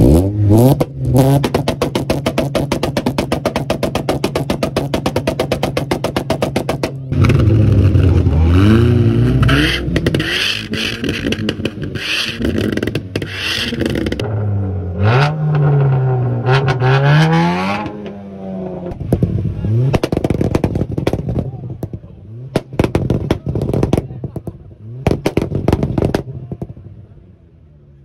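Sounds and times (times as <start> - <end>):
car engine on rev limiter: 0.0 - 27.0
car engine revving up and down: 0.0 - 27.0.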